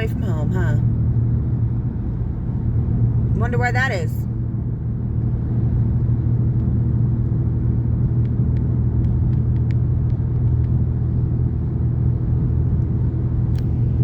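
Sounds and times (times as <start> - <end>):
car driving cabin rumble: 0.0 - 14.0.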